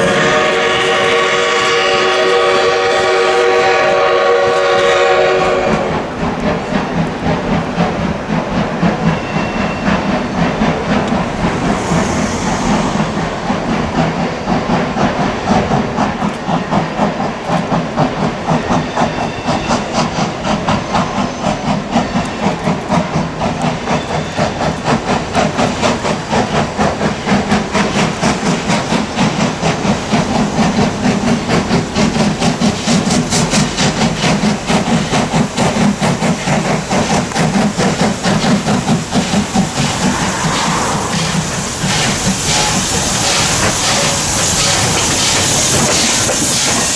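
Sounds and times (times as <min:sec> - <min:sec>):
steam hiss: 0:00.0 - 0:46.9
steam locomotive chuffing: 0:00.0 - 0:46.9.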